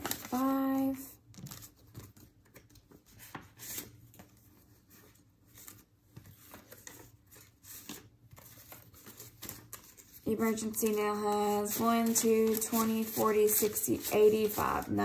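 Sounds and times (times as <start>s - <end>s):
paper money rustling: 0.0s - 15.0s.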